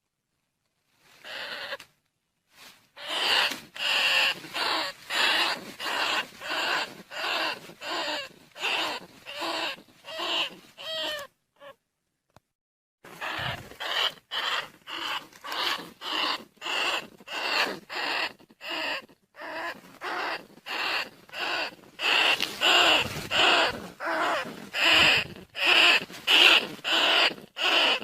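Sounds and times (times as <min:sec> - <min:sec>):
rat squeaking calls: 0:01.2 - 0:01.8, 0:03.0 - 0:11.8, 0:13.1 - 0:28.0.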